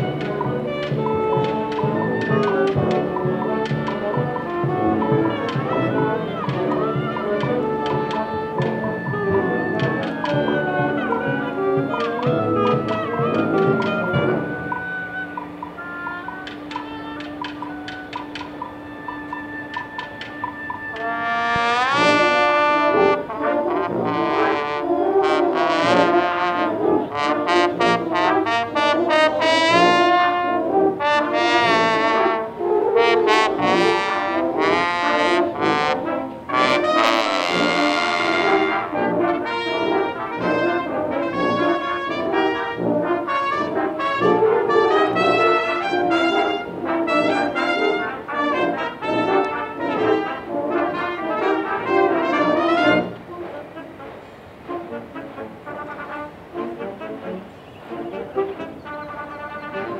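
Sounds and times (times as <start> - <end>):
wind band playing: 0.0 - 59.9.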